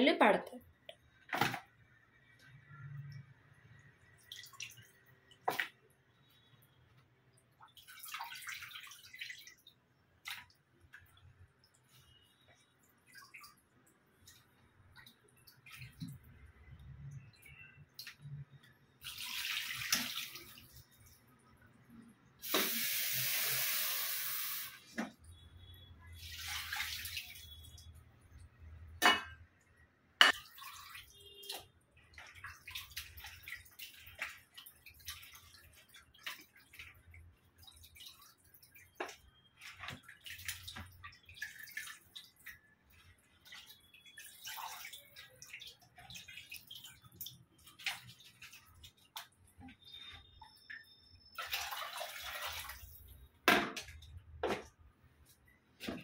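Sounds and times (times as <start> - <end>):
water splashing and dripping: 0.8 - 56.0
water pouring: 2.2 - 6.7, 7.5 - 29.4, 30.2 - 54.7.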